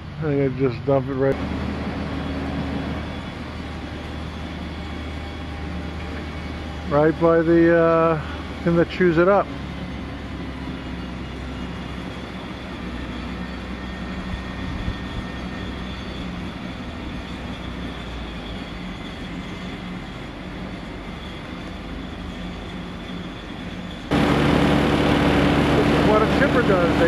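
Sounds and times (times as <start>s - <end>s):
diesel engine hum: 0.0s - 27.0s
faint high whine: 0.0s - 27.0s.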